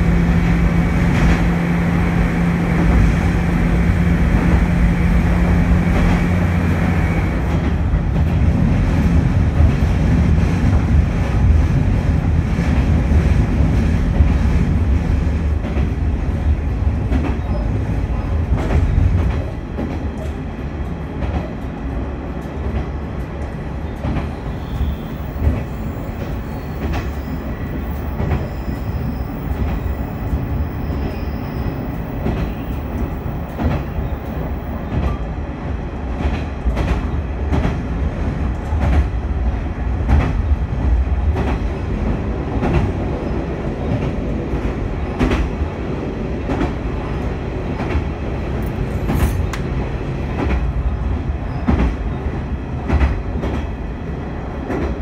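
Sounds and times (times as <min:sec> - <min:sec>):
railcar rumbling on rails: 0:00.0 - 0:55.0.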